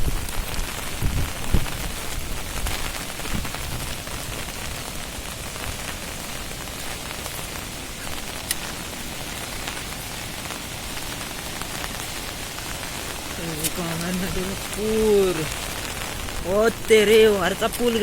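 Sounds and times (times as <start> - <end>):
close raindrop hits: 0.0 - 18.0
heavy rain falling: 0.0 - 18.0.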